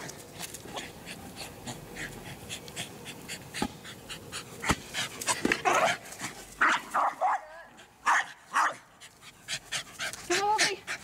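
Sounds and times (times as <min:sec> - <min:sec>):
dog panting rapidly: 0:00.7 - 0:06.5, 0:07.8 - 0:11.0.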